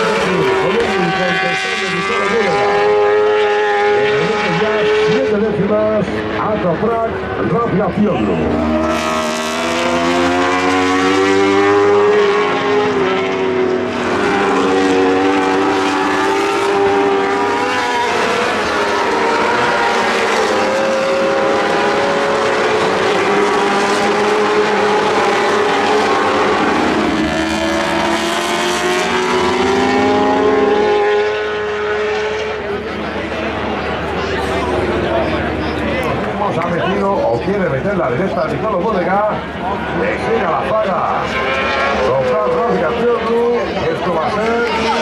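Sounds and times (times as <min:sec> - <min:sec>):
racing motorcycles at high revs: 0:00.0 - 0:36.7.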